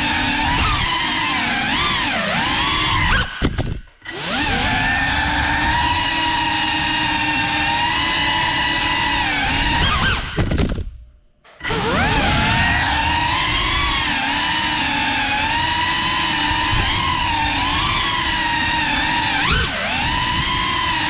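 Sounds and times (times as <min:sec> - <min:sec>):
drone motors whining: 0:00.0 - 0:10.8, 0:11.4 - 0:21.0.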